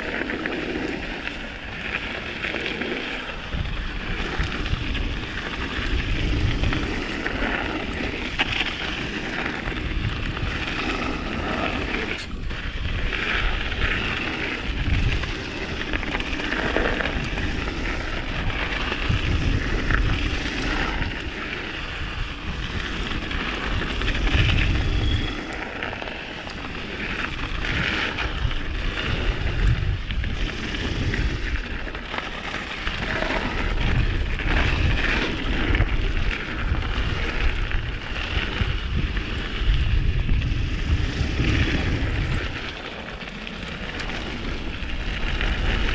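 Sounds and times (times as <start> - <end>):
bike rattling over bumps: 0.0 - 45.9
bike tyre noise: 0.0 - 45.9
wind on microphone: 0.0 - 45.9.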